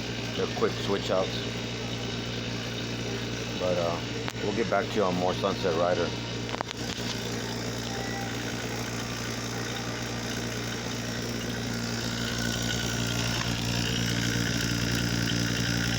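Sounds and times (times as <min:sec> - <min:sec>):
electric motor drone with hum: 0:00.0 - 0:15.9.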